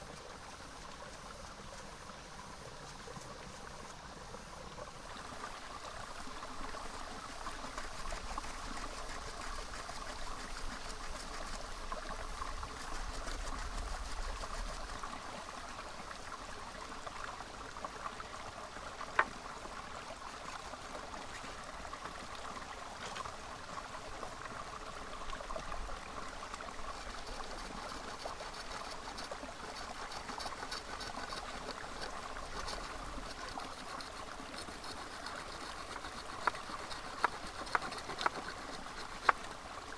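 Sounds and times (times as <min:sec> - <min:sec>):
small stream trickling: 0:00.0 - 0:39.9.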